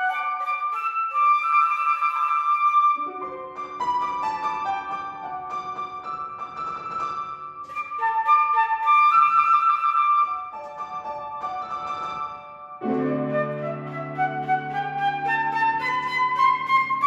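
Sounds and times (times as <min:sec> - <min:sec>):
flute melody: 0:00.0 - 0:05.6, 0:06.8 - 0:17.0
piano accompaniment: 0:00.0 - 0:17.0.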